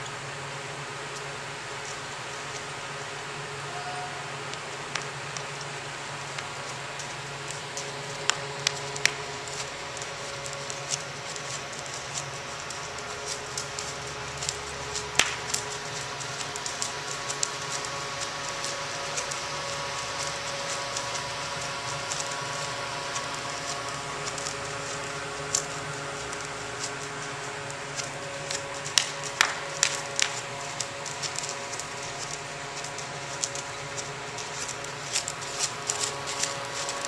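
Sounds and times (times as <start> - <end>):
barn ventilation fan humming: 0.0 - 37.0.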